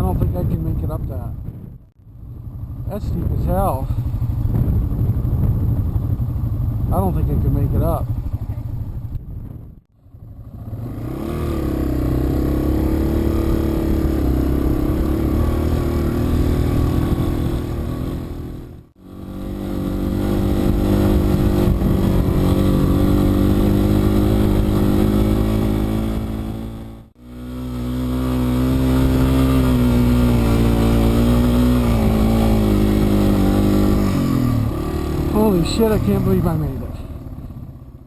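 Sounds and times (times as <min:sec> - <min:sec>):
motorcycle engine running hard: 0:00.0 - 0:38.0.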